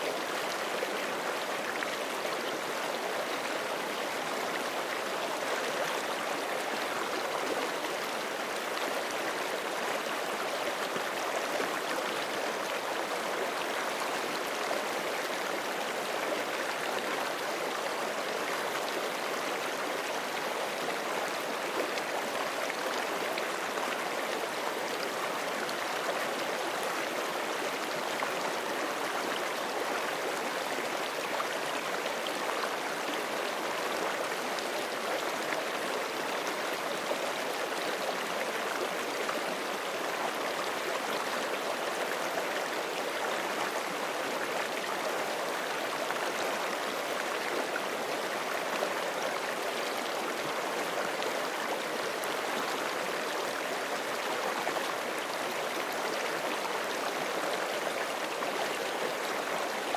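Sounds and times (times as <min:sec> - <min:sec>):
creek flowing over rocks: 0:00.0 - 0:59.9.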